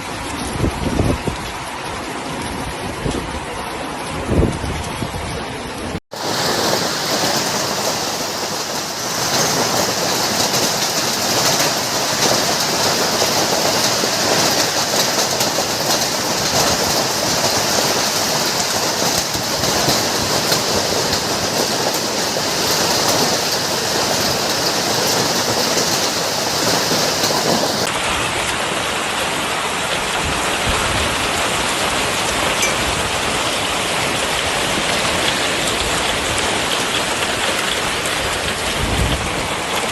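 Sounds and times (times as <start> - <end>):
heavy rain and hail: 0.0 - 39.9.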